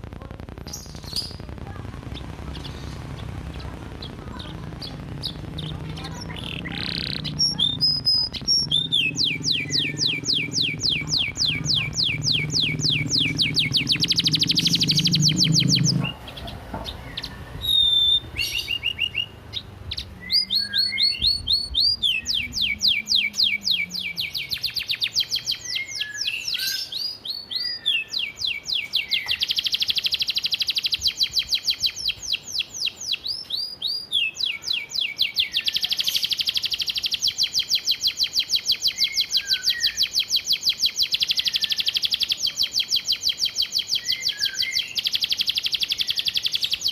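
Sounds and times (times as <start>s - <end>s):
canary chirps: 0.1s - 46.9s
canary trilling: 0.5s - 46.9s.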